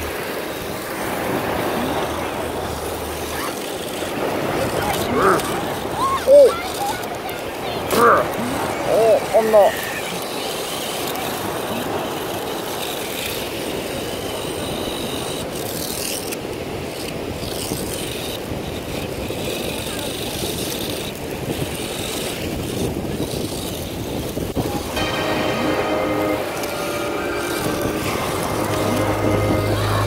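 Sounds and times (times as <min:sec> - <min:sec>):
surf: 0:00.0 - 0:30.0
wind: 0:00.0 - 0:30.0.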